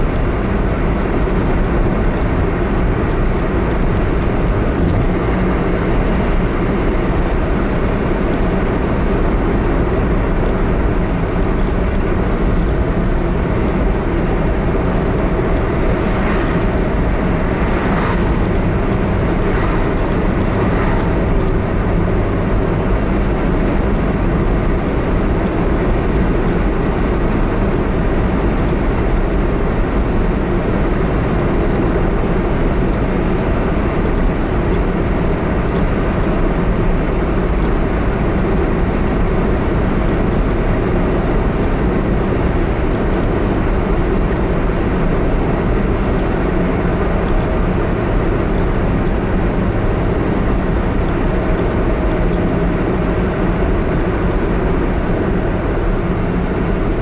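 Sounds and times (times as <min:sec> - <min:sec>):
road and engine noise inside car: 0:00.0 - 0:57.0.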